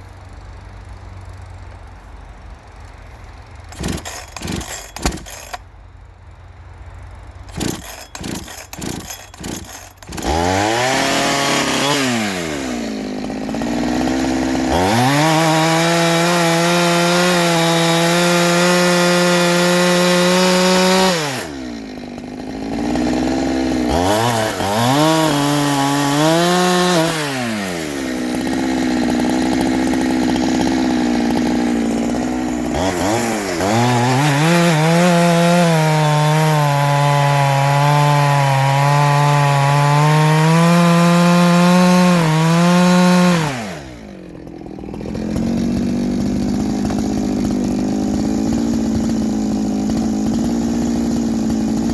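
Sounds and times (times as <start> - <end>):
chainsaw cutting wood: 2.9 - 5.7, 7.4 - 51.9.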